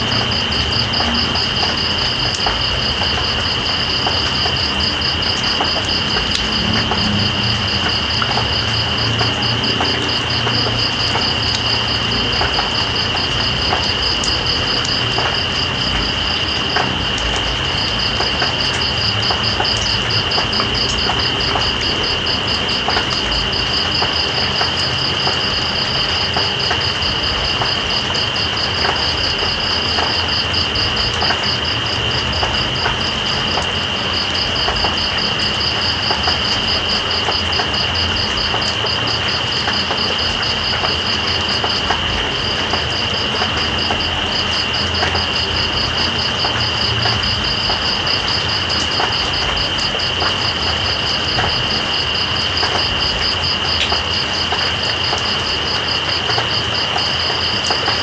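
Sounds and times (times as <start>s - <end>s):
rain hiss with drop ticks: 0.0s - 58.0s.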